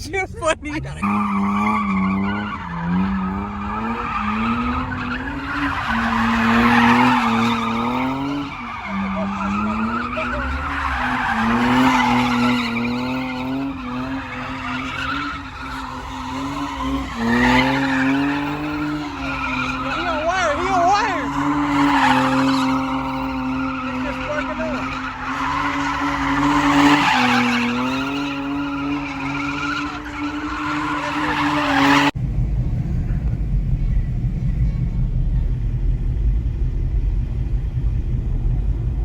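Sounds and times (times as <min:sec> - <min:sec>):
car engine revving: 0:00.0 - 0:39.0
tires skidding: 0:00.0 - 0:39.0.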